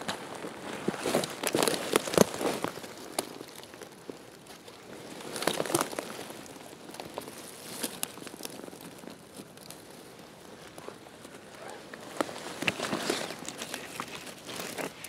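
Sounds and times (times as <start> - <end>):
pine needles and twigs crackling: 0.0 - 15.0
twigs snapping: 0.0 - 15.0.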